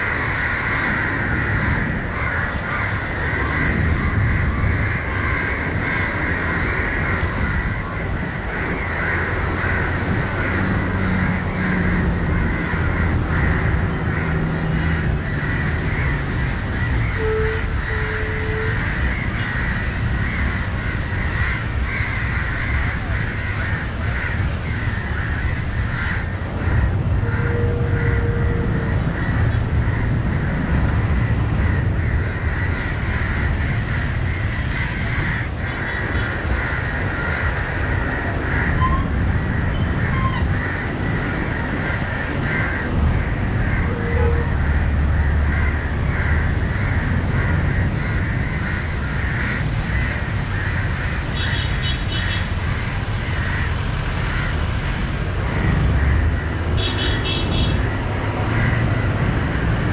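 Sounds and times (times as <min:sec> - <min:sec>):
crows cawing: 0:00.0 - 0:59.9.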